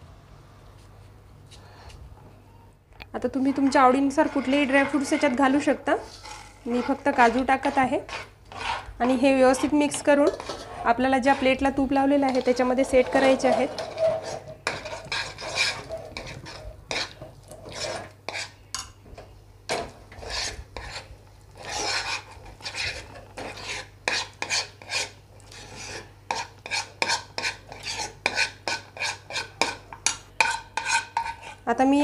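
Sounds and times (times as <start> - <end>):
spoon scraping frying pan: 3.3 - 19.0, 19.7 - 31.6.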